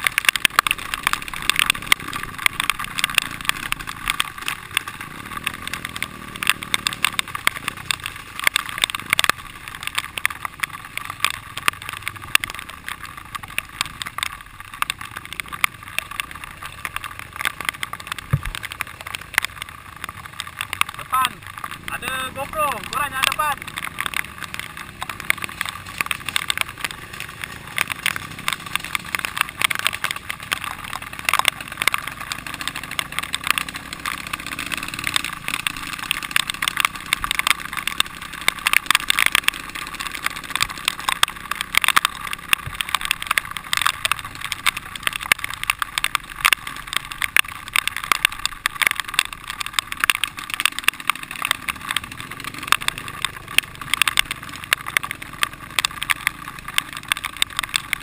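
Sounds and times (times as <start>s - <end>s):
dense irregular crackle: 0.0s - 58.0s
dirt bike engine running: 0.0s - 58.0s.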